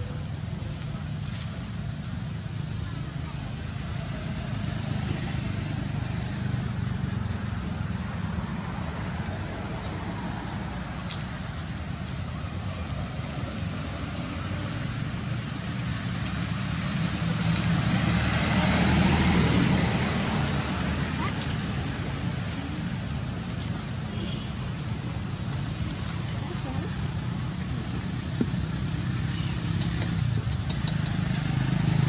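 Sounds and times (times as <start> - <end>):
low traffic rumble: 0.0 - 32.0.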